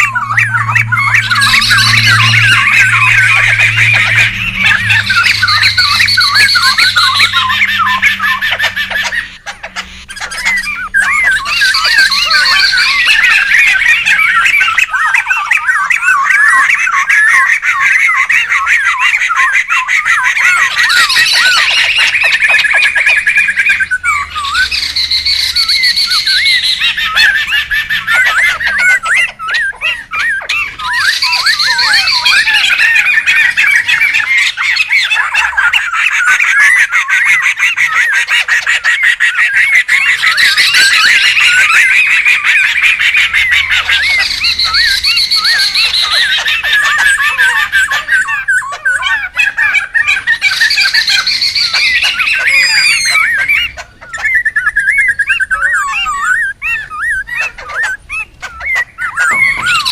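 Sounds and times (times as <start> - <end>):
birds chattering and squawking: 0.0 - 59.9.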